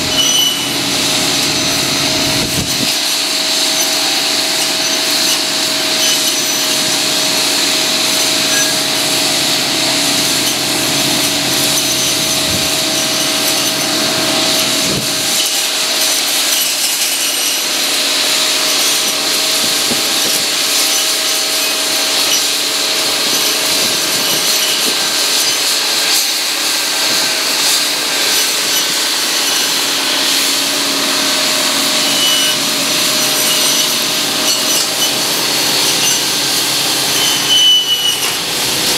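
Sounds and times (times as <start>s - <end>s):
tractor engine running: 0.0s - 37.6s, 38.2s - 38.9s
saw blades cutting branches: 0.0s - 38.9s.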